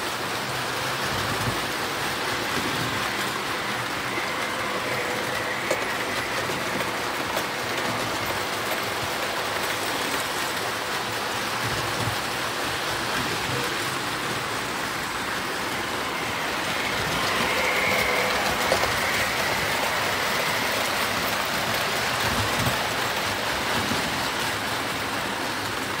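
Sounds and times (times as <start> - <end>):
toy train wheels rattling on rails: 0.0 - 26.0.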